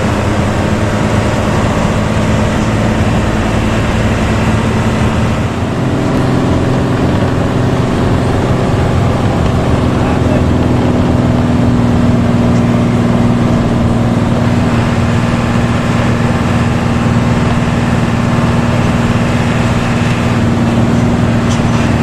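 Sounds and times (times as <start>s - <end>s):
bus engine droning: 0.0s - 22.0s
road noise: 0.0s - 22.0s.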